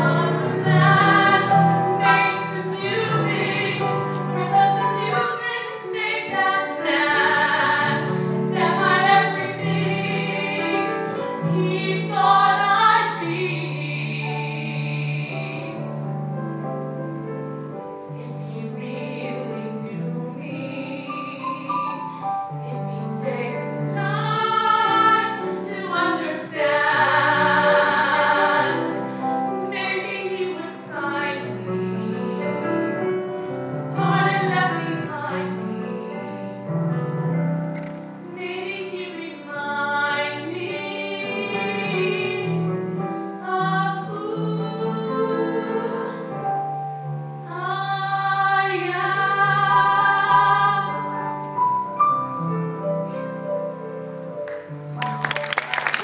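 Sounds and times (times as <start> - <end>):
woman singing: 0.0 - 15.9, 18.2 - 33.0, 33.9 - 36.6, 38.2 - 42.7, 43.3 - 46.6, 47.4 - 51.4
grand piano: 0.0 - 56.0.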